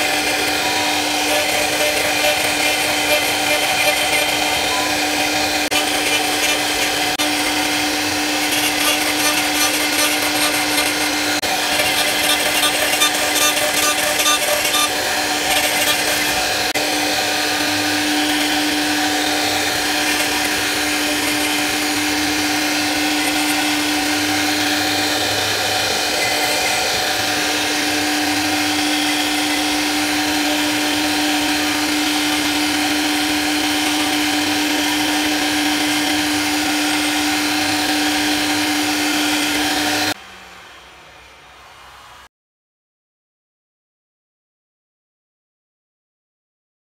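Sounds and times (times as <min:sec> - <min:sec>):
router spindle whining: 0:00.0 - 0:42.3.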